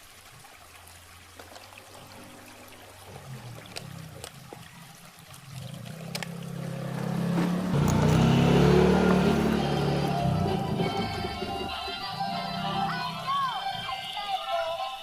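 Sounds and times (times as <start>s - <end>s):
trickling water: 0.0s - 15.0s.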